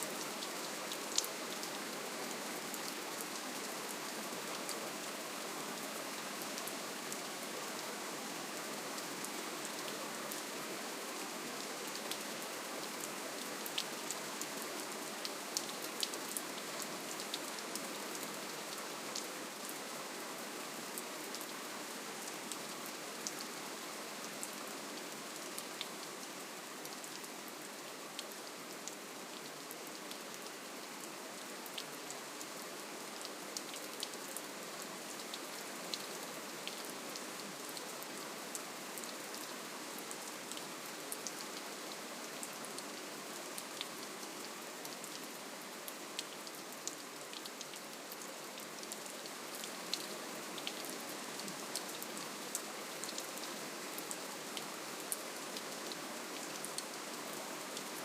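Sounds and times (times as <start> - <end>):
soft steady rain: 0.0 - 58.0.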